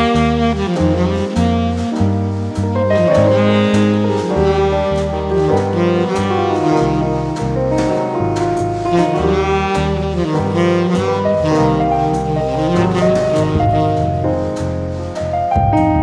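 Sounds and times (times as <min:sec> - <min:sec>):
jazz instrumental music: 0:00.0 - 0:16.0.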